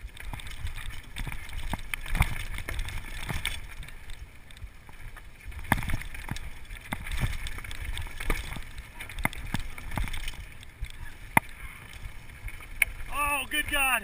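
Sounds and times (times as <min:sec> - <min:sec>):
bike chain and frame rattling: 0:00.0 - 0:13.1
low rumble of tyres and wind: 0:00.0 - 0:14.0.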